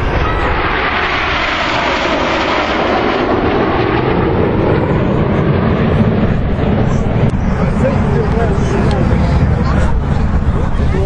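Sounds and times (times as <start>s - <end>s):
aircraft flying past: 0.0s - 11.0s.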